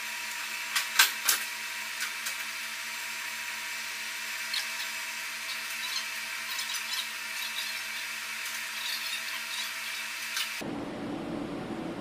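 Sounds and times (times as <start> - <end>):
steady workshop hum: 0.0 - 12.0.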